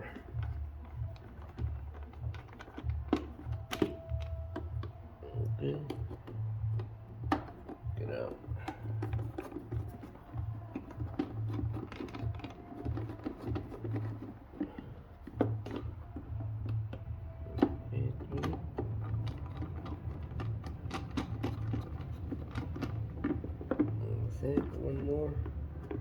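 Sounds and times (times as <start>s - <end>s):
screwdriver clicking on plastic: 0.1s - 26.0s.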